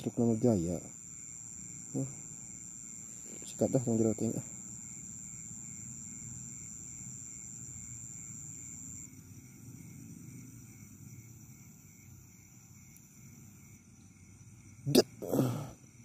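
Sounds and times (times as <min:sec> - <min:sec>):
insects pulsing chirp: 0:00.0 - 0:16.0
insects trilling high-pitched: 0:00.0 - 0:16.0.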